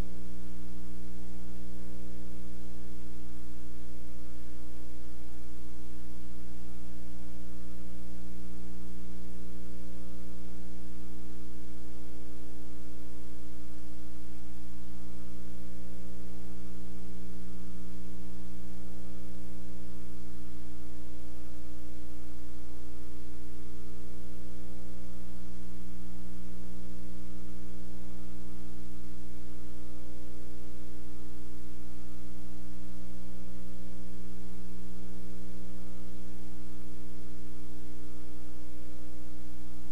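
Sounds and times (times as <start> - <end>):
electrical mains hum: 0.0 - 39.9
faint hiss: 0.0 - 39.9.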